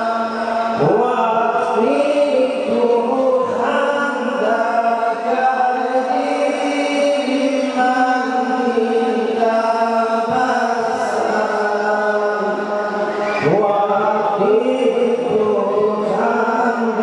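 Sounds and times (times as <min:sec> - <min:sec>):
men chanting a mourning lament: 0:00.0 - 0:17.0.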